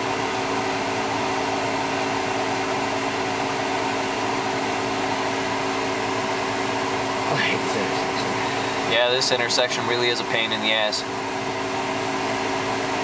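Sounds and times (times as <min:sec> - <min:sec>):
engine and ventilation hum: 0:00.0 - 0:13.0.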